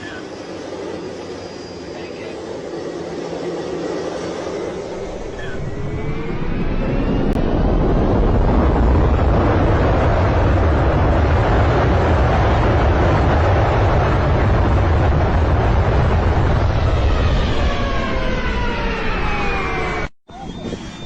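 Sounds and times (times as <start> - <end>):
airliner roar with low rumble: 0.0 - 21.0.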